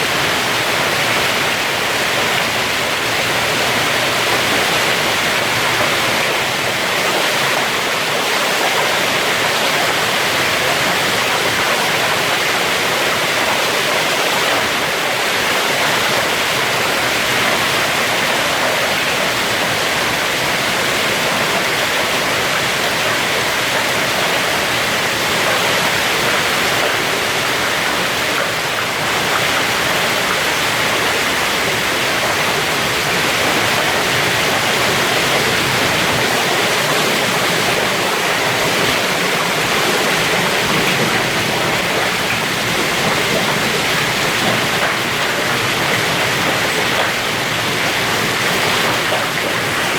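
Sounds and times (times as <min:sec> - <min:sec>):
hail and rain falling: 0:00.0 - 0:49.9.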